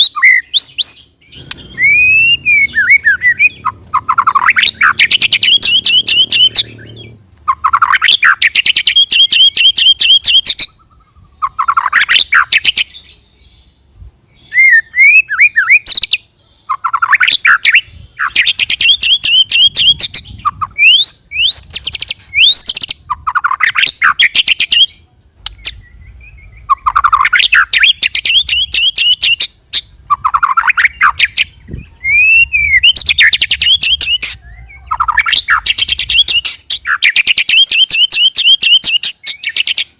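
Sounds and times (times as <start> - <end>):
bird singing rattling phrases: 0.0 - 39.9.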